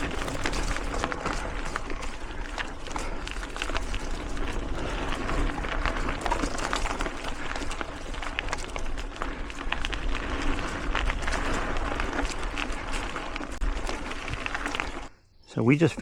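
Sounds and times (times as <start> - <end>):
bike rattling and clicking: 0.0 - 15.1
wind rumble on microphone: 0.0 - 15.1
bike tyres rolling over dirt: 0.0 - 16.0.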